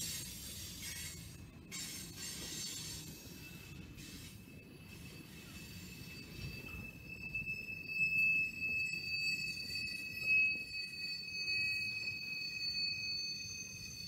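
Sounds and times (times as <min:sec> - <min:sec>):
high-pitched wheel squeal: 0:00.0 - 0:14.0.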